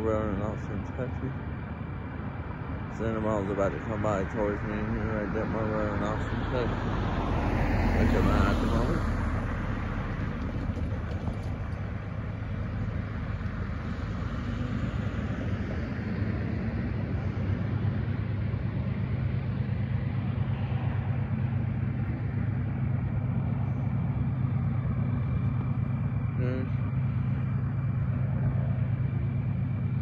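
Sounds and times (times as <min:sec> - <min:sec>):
diesel locomotives rumbling: 0:00.0 - 0:30.0
car passing over crossing: 0:04.6 - 0:30.0.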